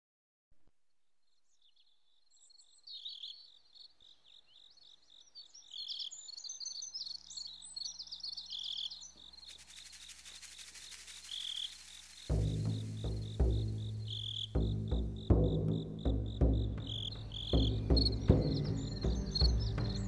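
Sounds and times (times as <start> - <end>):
insect chirping: 1.2 - 20.0
small birds chirping: 1.2 - 20.0.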